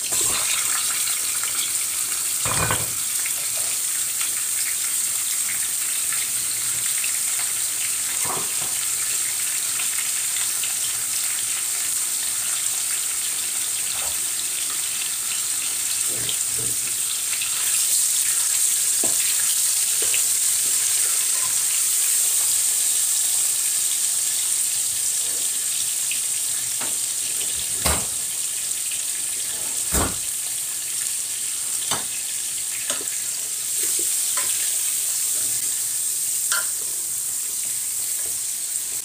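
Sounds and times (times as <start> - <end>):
chicken sizzling in a pot: 0.0 - 39.0.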